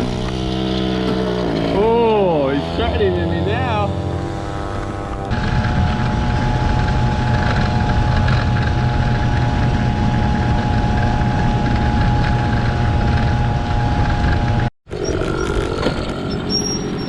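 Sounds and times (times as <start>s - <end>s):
scooter engine droning: 0.0s - 17.0s.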